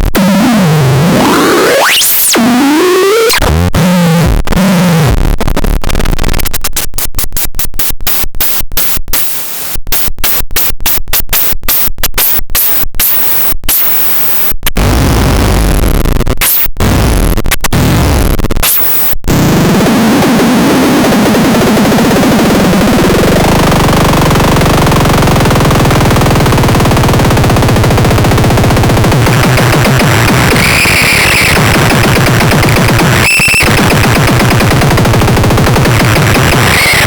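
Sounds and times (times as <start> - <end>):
harsh electronic static: 0.0 - 37.0.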